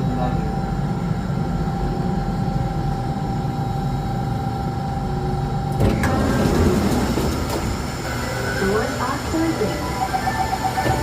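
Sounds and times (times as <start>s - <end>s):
train rumble with whine: 0.0s - 11.0s.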